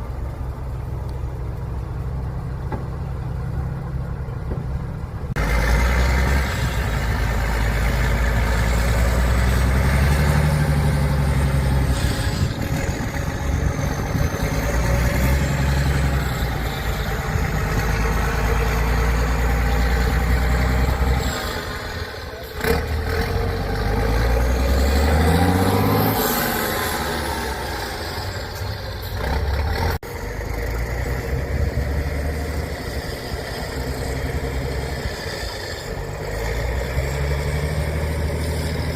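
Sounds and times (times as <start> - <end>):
truck diesel engines under load: 0.0 - 38.9.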